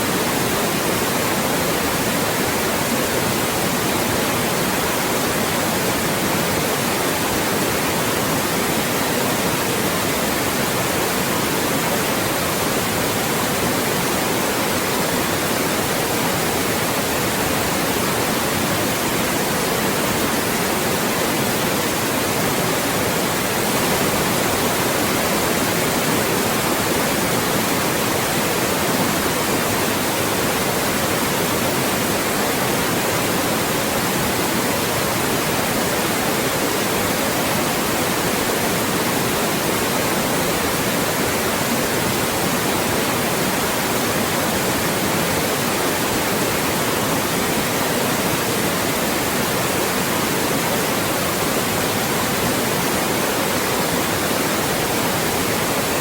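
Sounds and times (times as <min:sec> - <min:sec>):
loud white noise: 0:00.0 - 0:56.0.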